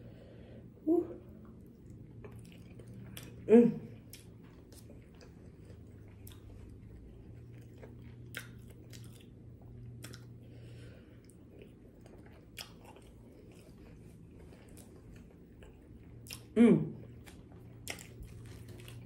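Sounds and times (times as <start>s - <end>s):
low steady hum: 0.0s - 19.0s
chewing food: 1.4s - 19.0s.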